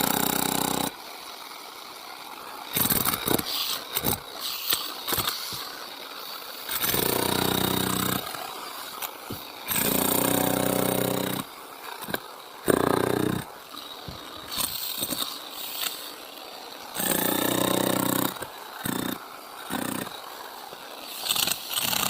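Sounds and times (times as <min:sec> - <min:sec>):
concrete saw motor: 0:00.0 - 0:22.0.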